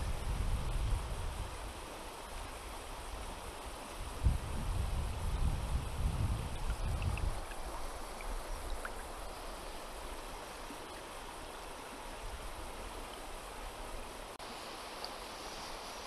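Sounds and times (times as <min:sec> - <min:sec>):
river rushing over stones: 0:00.3 - 0:16.0.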